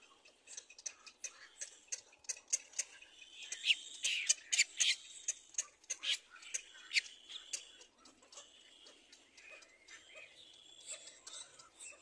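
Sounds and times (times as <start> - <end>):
chick begging calls: 0.0 - 12.0.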